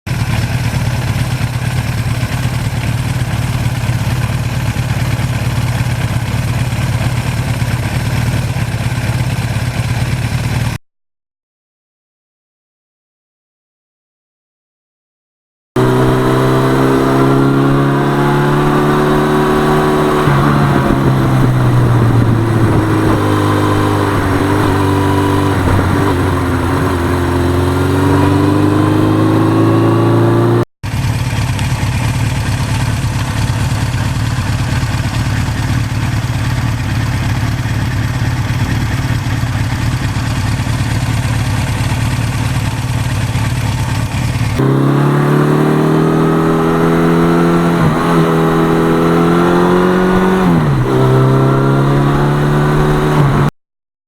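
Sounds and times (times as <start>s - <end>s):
motorcycle engine running: 0.1s - 10.8s, 15.8s - 53.5s.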